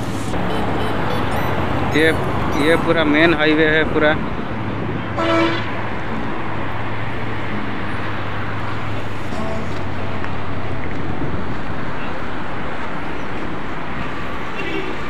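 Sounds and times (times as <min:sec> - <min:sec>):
lorry diesel engine humming: 0:00.0 - 0:14.5
highway traffic road noise: 0:00.0 - 0:15.0.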